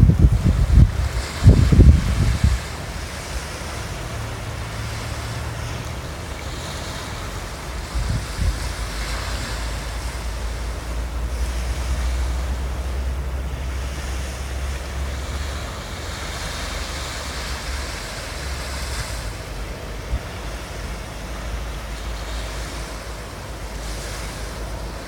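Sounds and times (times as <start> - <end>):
sea waves washing onto beach: 0.0 - 25.0
wind buffeting microphone: 0.0 - 25.0.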